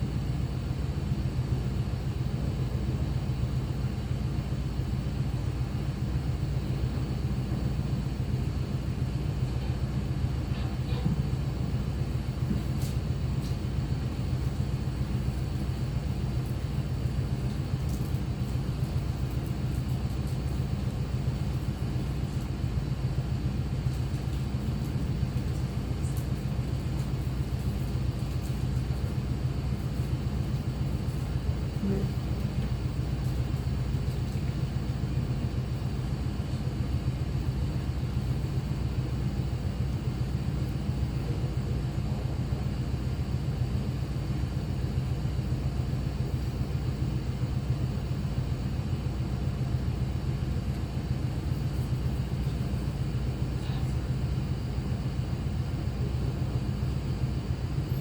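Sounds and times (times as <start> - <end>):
low machinery hum: 0.0 - 58.0.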